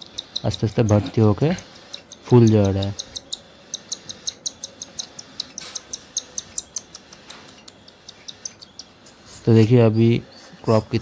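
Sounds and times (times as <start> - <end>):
bird chick begging chirps: 0.0 - 11.0.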